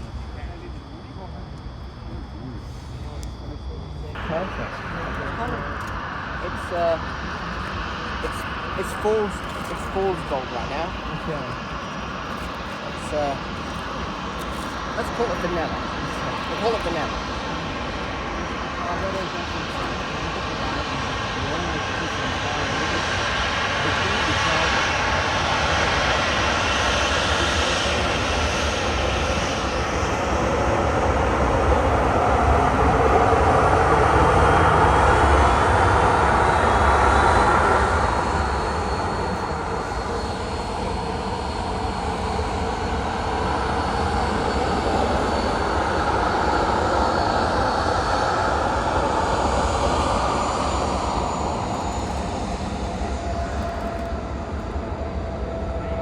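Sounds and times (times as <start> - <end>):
jet airliner engines passing: 0.0 - 56.0.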